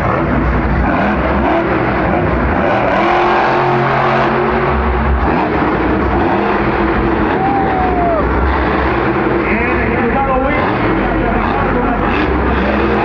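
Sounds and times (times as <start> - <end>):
monster truck engine running: 0.0 - 13.0.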